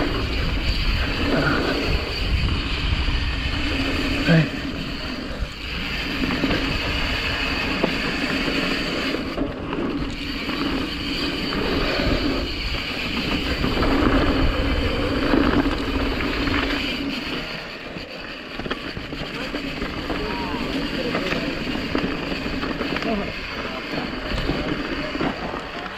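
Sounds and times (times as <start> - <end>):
bike rattling: 0.0 - 25.9
bike tyres on dirt: 0.0 - 25.9
wind noise on microphone: 0.0 - 25.9.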